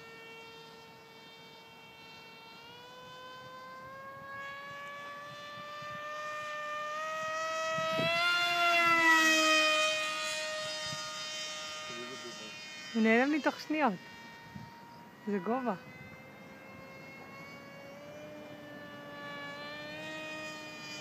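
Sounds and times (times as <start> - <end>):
electric motor and propeller whining: 0.0 - 21.0.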